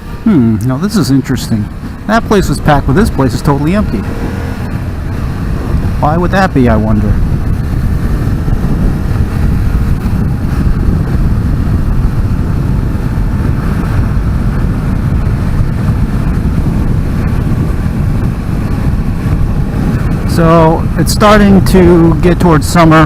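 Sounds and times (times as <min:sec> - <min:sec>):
motorcycle engine: 0:00.0 - 0:22.8
wind rush over microphone: 0:00.0 - 0:23.0.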